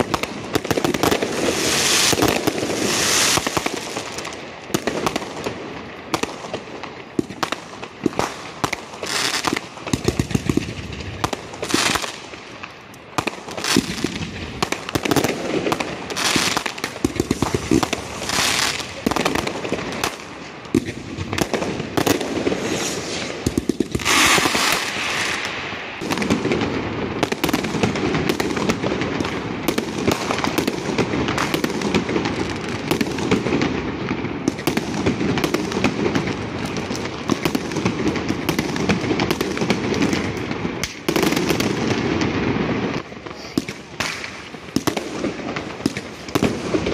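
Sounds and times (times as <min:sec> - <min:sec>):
fireworks bangs and crackling: 0:00.0 - 0:46.9
hissing firework bursts: 0:00.0 - 0:46.9.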